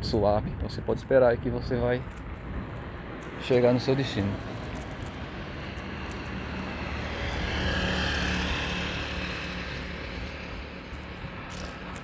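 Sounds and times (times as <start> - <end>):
passing engine hum and rush: 2.0 - 12.0.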